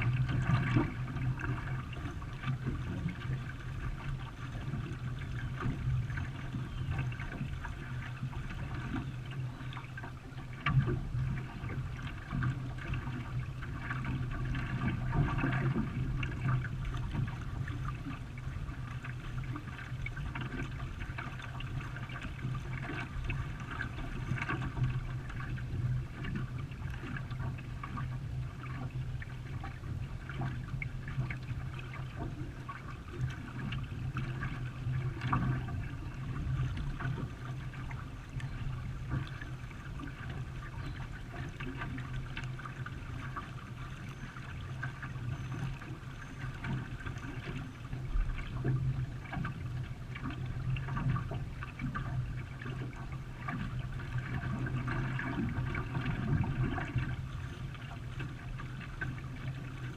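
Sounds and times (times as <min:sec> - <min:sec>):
water splashing around canoe: 0:00.0 - 0:59.9.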